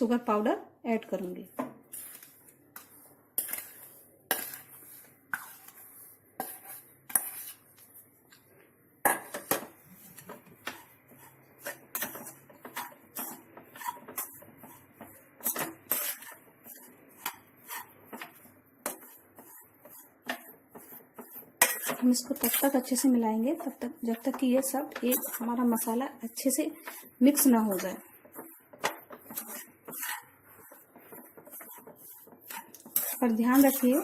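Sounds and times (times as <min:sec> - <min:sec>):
spoon stirring and scraping in pan: 0:01.3 - 0:34.0.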